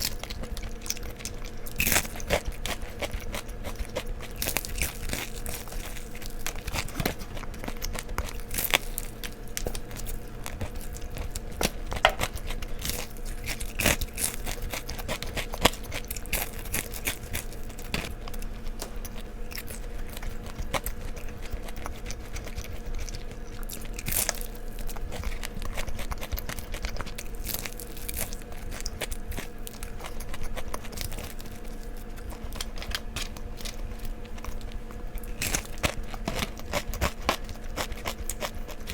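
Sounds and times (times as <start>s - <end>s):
crunchy bites and chewing: 0.0s - 38.9s
faint steady hum: 0.0s - 38.9s.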